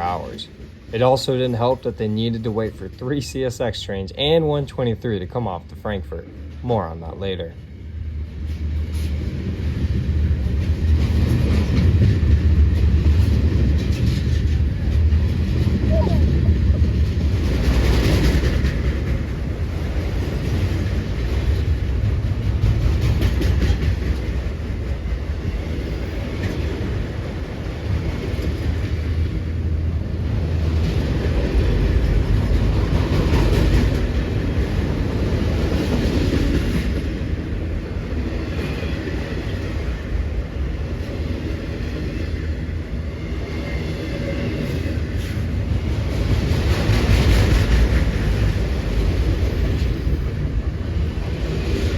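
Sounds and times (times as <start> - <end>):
freight train rolling past: 0.0 - 51.9.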